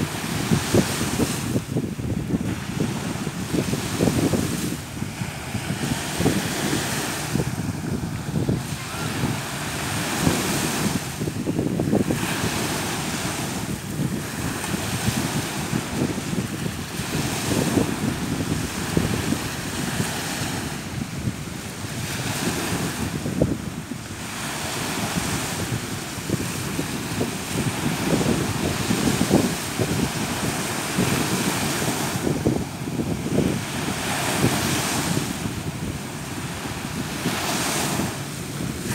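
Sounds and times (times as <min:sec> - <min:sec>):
small waves breaking on beach: 0:00.0 - 0:38.9
wind buffeting microphone: 0:00.0 - 0:38.9.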